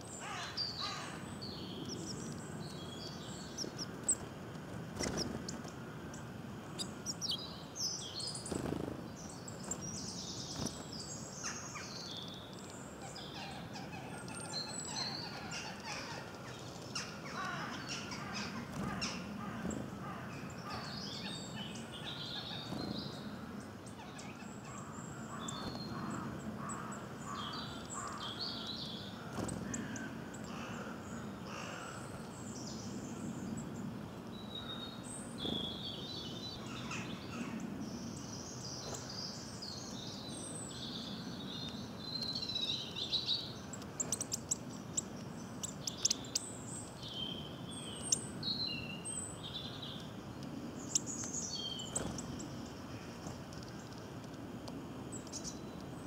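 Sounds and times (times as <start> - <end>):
birds chirping and singing: 0.0 - 4.3, 5.0 - 54.0, 55.1 - 56.0.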